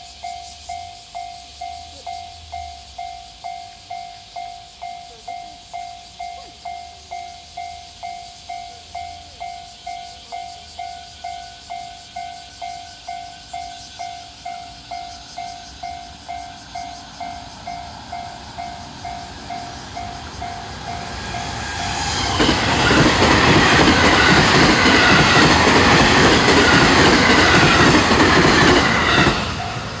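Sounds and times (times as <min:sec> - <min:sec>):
electric train passing: 0:00.0 - 0:30.0
level crossing warning bell: 0:00.0 - 0:30.0
wheels on rail joints: 0:00.0 - 0:30.0.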